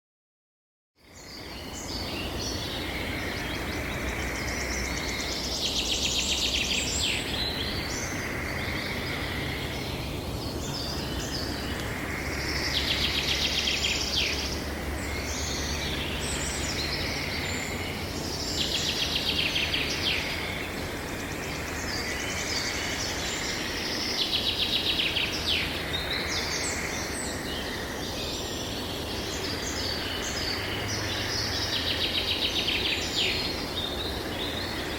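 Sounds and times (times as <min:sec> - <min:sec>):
low rush of wind: 0:01.0 - 0:34.9
songbird singing with trill: 0:01.0 - 0:34.9.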